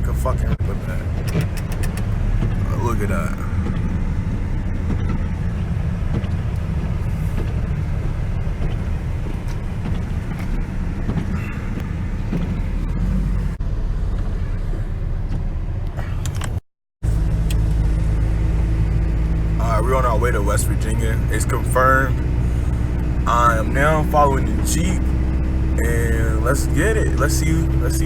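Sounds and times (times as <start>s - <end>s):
pickup truck engine: 0.0s - 28.0s
road rumble: 0.0s - 28.0s.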